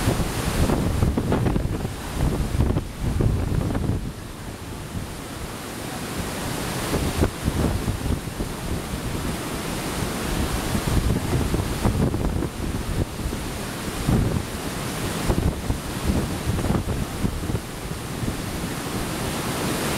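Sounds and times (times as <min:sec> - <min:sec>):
heavy rain pouring: 0:00.0 - 0:19.9
wind gusting against microphone: 0:00.0 - 0:19.9.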